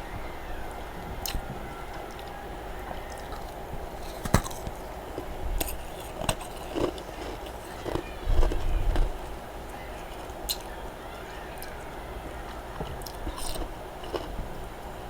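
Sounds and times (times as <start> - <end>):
person chewing frost: 1.2 - 14.7.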